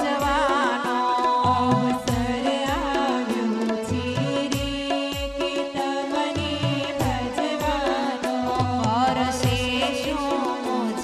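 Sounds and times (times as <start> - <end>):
devotional background music: 0.0 - 11.0.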